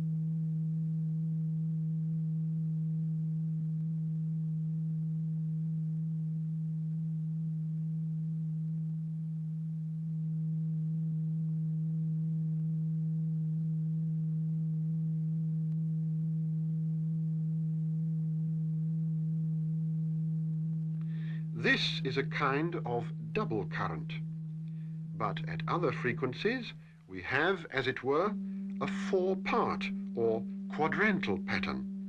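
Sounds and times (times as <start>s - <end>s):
steady low pure tone: 0.0s - 32.0s.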